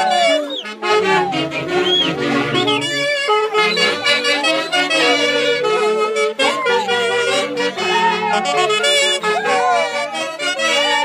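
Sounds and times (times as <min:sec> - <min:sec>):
saxophones and clarinets melody: 0:00.0 - 0:11.0
steady lower accompaniment: 0:00.0 - 0:11.0.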